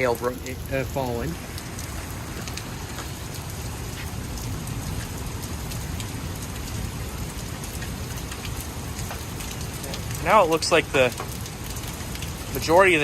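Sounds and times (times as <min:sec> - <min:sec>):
hailstones ticking: 0:00.0 - 0:13.0
heavy rain pouring: 0:00.0 - 0:13.0.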